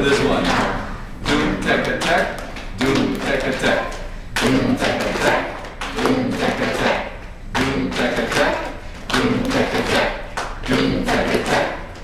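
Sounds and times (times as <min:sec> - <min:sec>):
group of voices chanting: 0:00.1 - 0:12.0.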